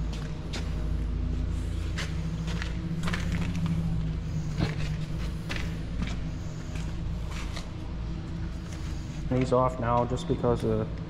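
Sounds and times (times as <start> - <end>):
footsteps on concrete floor: 0.0 - 10.2
steady low hum: 0.0 - 11.0.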